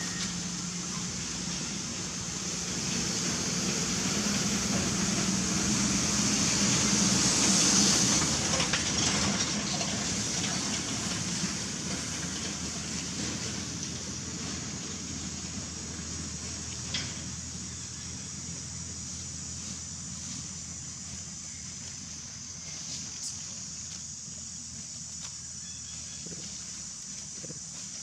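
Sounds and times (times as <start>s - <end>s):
steady rumble and hiss: 0.0s - 28.0s.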